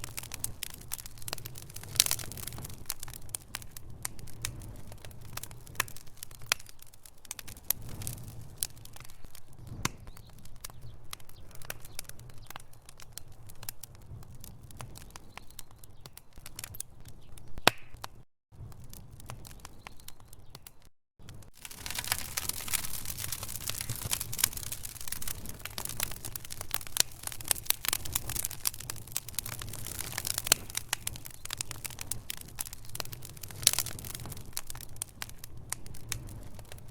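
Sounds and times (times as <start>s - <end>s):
logs crackling in a fireplace: 0.0s - 36.9s.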